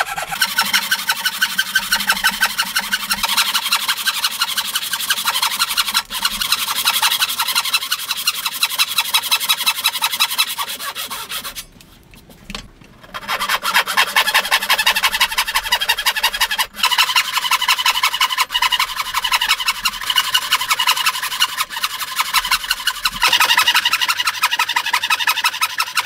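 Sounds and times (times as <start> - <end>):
hand saw rasping through wood: 0.0 - 11.7, 13.1 - 26.0.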